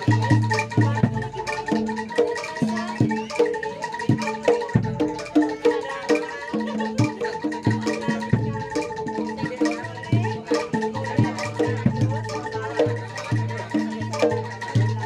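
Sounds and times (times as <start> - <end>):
drum strokes: 0.0 - 15.0.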